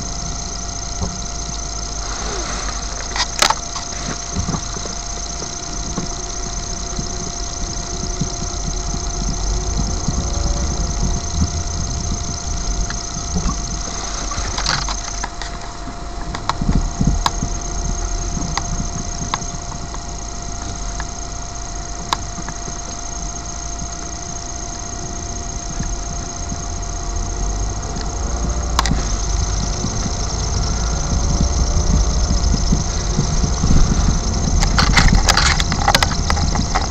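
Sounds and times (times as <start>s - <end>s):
car engine and road noise: 0.0s - 36.9s
faint steady tone: 0.0s - 36.9s.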